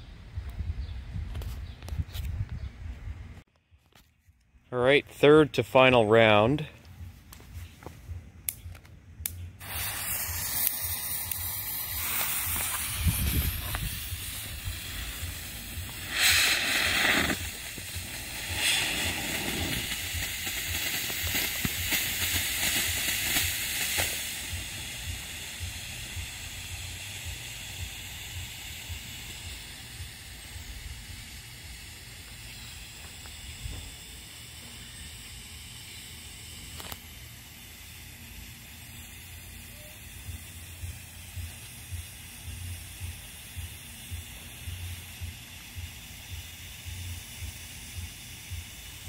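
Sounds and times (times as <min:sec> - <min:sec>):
smoke box hissing: 0:05.1 - 0:49.0.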